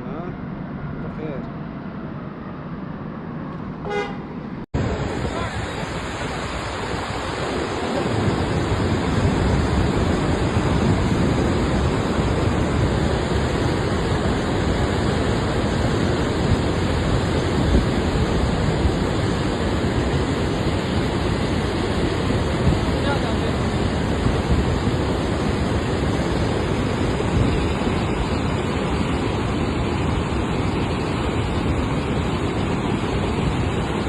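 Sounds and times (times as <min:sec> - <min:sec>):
floodwater rushing: 0:04.8 - 0:34.0.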